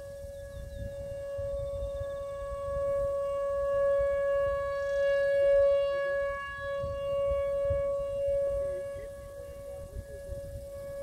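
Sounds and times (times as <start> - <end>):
warning siren steady tone: 0.0 - 11.0.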